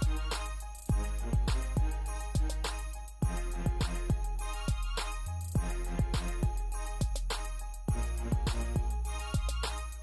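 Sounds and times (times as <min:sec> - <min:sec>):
quick hi-hat pattern: 0:00.0 - 0:10.0.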